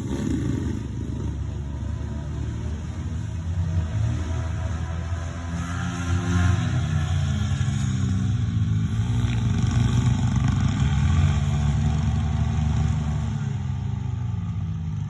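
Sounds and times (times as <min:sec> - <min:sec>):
small motorcycle engine passing by: 0:00.0 - 0:15.0.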